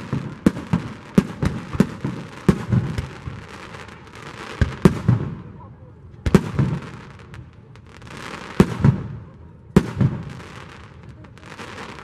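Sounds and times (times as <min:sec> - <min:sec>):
firework booms with echo: 0:00.0 - 0:05.6, 0:06.2 - 0:07.4, 0:08.0 - 0:12.0
firework crackling: 0:00.0 - 0:05.6, 0:06.2 - 0:12.0.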